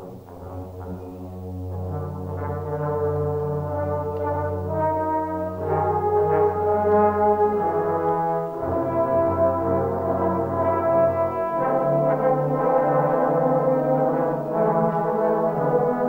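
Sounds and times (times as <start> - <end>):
trombone choir playing chords: 0.0 - 16.0.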